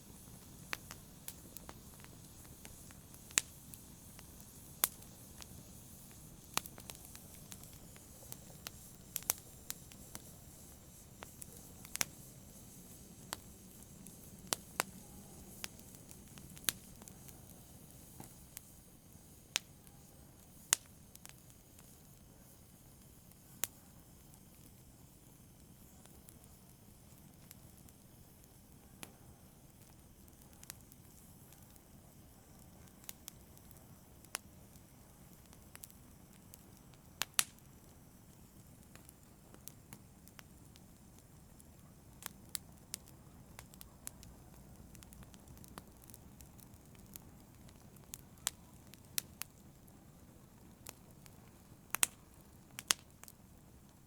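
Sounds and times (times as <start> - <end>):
fire crackling: 0.0 - 54.0
fire popping: 0.0 - 54.0.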